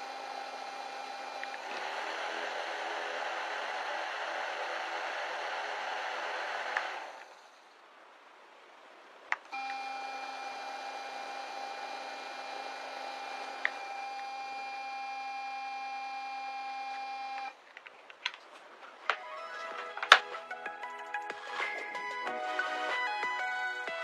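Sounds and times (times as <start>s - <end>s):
small fan whirring: 0.0s - 7.9s, 9.4s - 23.8s.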